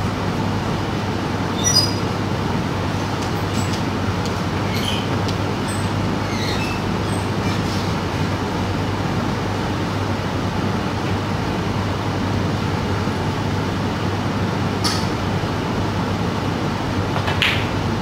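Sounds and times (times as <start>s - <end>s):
droning room noise: 0.0s - 18.0s.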